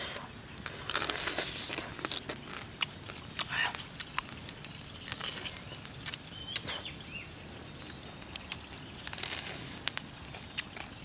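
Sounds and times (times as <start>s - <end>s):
rustling crunch: 0.0s - 11.0s
sharp clicks and crackles: 0.1s - 6.8s, 7.5s - 11.0s.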